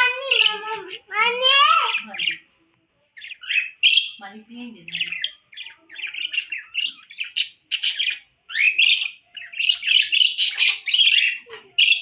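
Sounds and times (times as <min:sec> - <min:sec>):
parrots chirping and chattering: 0:00.0 - 0:12.0.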